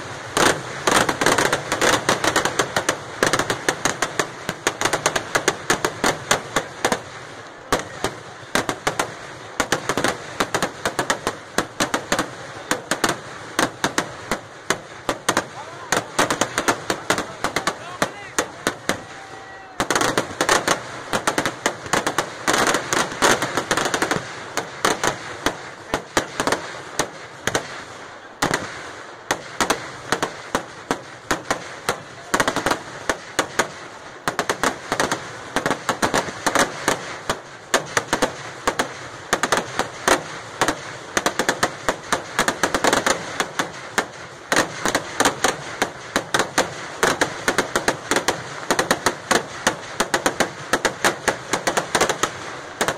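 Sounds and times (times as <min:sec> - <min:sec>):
firecrackers banging rapidly: 0:00.0 - 0:52.9.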